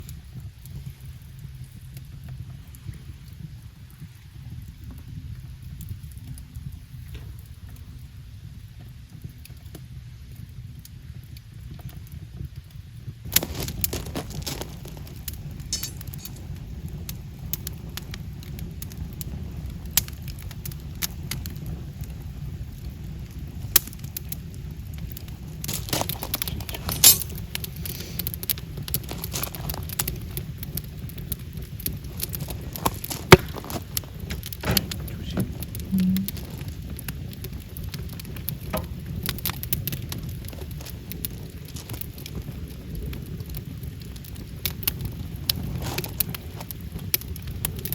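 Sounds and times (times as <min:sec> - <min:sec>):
firewood crackling and popping: 0:00.0 - 0:47.9
low rumble of flames: 0:00.0 - 0:47.9.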